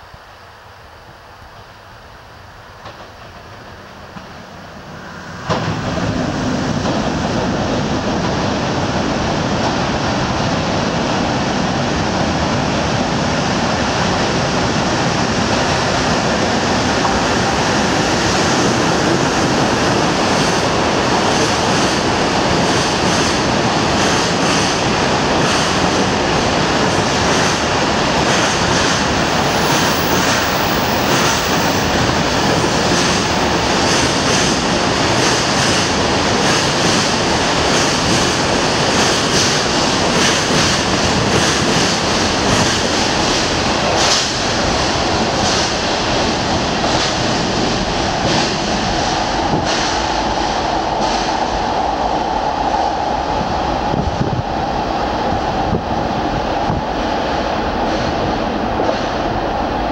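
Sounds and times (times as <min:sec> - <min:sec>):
train passing loudly: 0:00.0 - 0:59.9.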